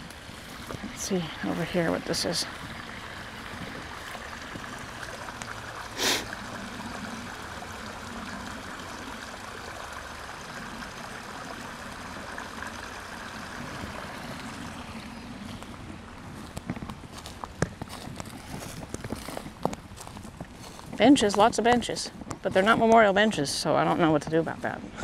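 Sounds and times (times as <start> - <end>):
creek trickling over stones: 0.0 - 24.6.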